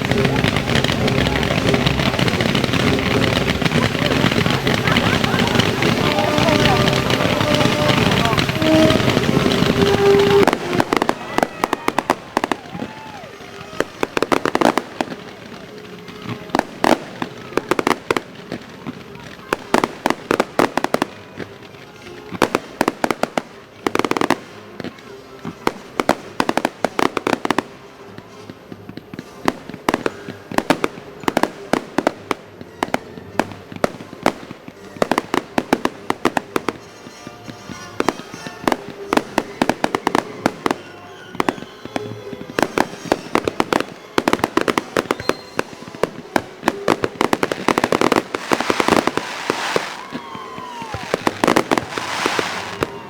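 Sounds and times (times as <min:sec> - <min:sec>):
fireworks bangs: 0:00.0 - 0:53.0
fireworks crackling: 0:00.0 - 0:53.0.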